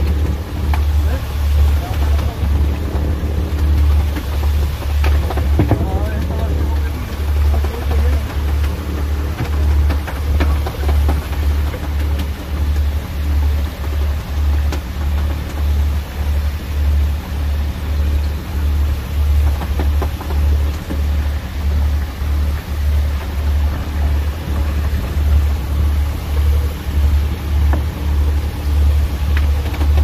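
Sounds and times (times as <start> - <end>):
boat engine throbbing: 0.0 - 30.0.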